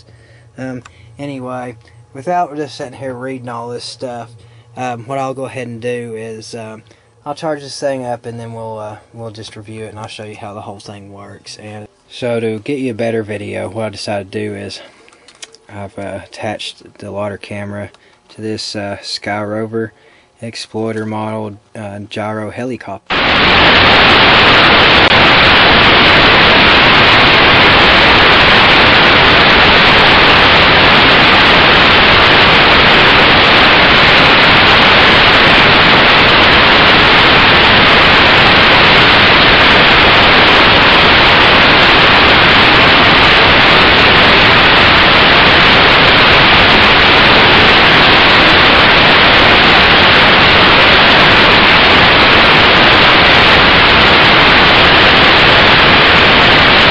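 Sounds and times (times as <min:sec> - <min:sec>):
static-like hiss: 0:00.0 - 0:56.9.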